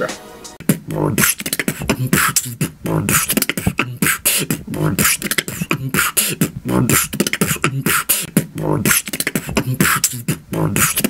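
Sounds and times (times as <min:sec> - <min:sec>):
beatboxing: 0:00.0 - 0:11.0
hummed vocal tones: 0:00.6 - 0:11.0.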